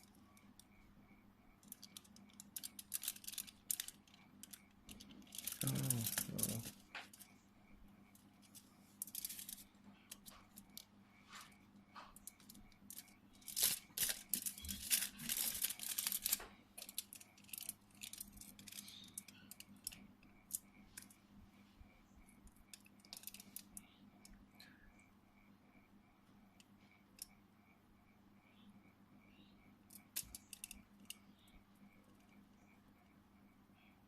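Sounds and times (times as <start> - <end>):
faint hum: 0.0 - 34.0.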